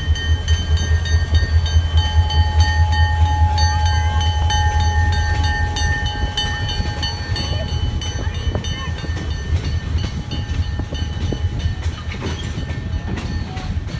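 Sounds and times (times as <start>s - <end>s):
locomotive engine drone: 0.0s - 13.9s.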